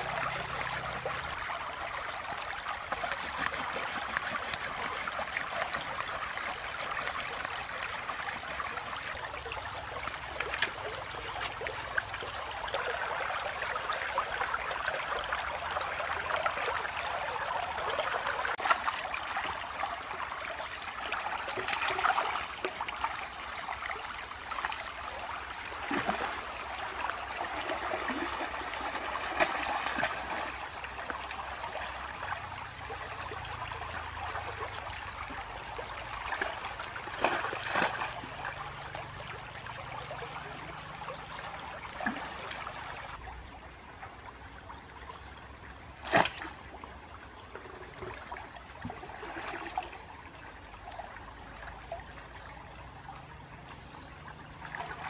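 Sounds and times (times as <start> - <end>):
stream water trickling and splashing: 0.0 - 55.0.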